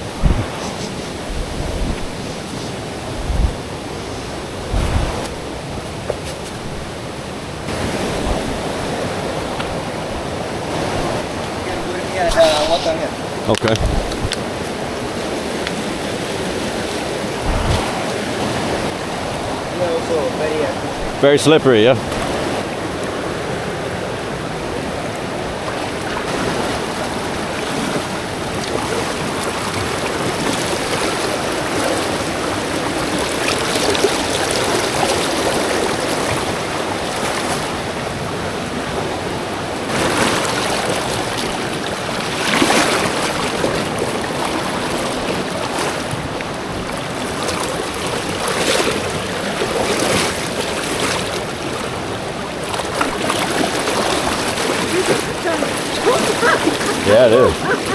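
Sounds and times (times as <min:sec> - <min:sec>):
fast-flowing water rushing: 0:00.0 - 0:57.9.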